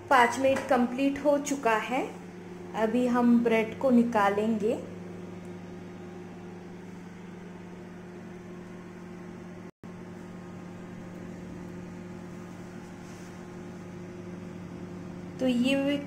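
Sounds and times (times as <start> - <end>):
appliance electrical hum: 0.0 - 16.0.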